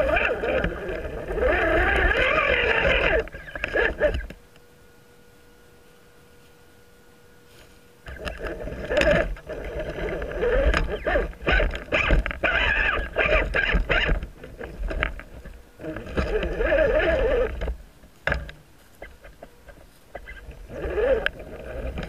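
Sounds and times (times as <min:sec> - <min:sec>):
tires clicking over rocks: 0:00.0 - 0:04.4, 0:08.1 - 0:22.0
small electric motor whining: 0:00.0 - 0:22.0.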